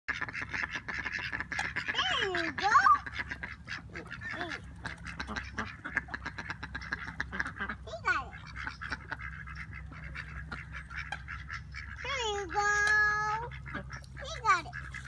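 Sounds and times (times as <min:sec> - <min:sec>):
drawn-out sliding duck call: 0:00.1 - 0:15.0
ducks quacking: 0:00.1 - 0:15.0.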